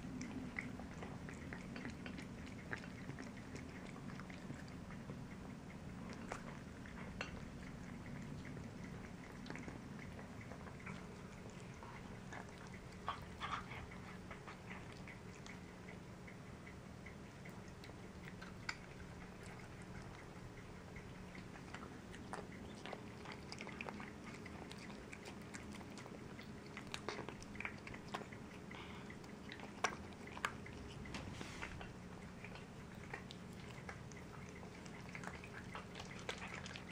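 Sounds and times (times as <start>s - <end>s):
cats chewing bones: 0.0s - 36.9s
faint low hum: 0.0s - 36.9s.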